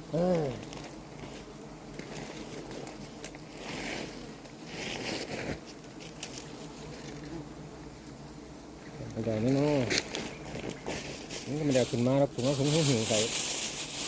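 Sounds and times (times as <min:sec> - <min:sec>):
honeycomb rustling and squelching: 0:00.3 - 0:07.6, 0:09.0 - 0:14.0.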